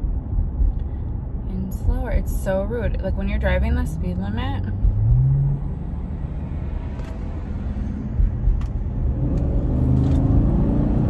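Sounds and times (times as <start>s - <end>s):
truck engine rumble: 0.0s - 10.7s
road noise: 0.0s - 11.0s.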